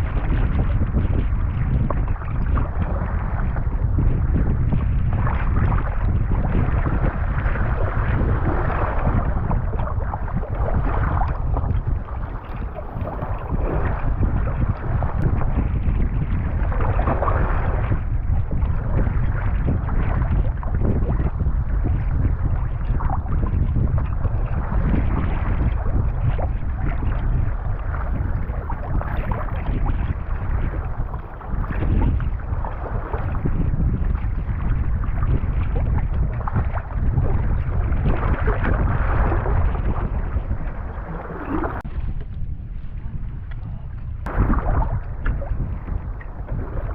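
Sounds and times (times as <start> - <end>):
water rushing and splashing: 0.0 - 42.0, 44.2 - 46.9
wind buffeting microphone: 0.0 - 46.9.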